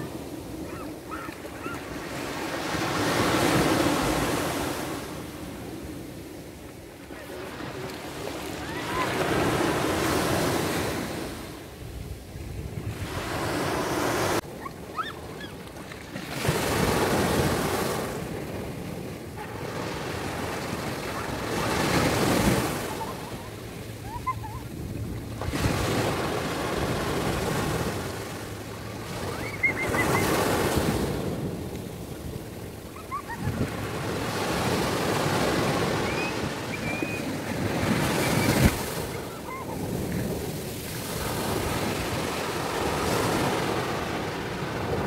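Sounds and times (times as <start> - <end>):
small waves breaking on beach: 0.0 - 45.0.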